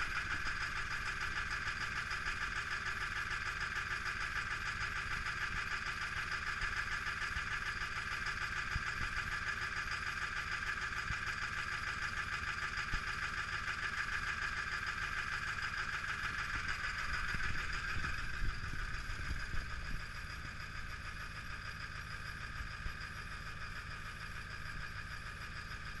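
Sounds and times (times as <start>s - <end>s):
diesel engine idling clatter: 0.0s - 26.0s.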